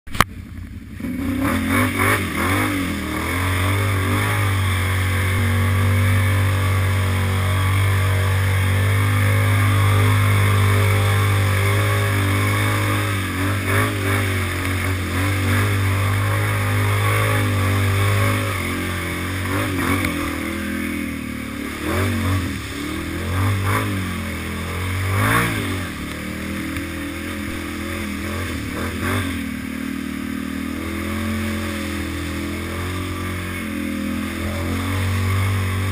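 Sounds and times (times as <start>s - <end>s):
atv engine running hard: 0.1s - 35.9s
mud and water splashing: 0.1s - 35.9s.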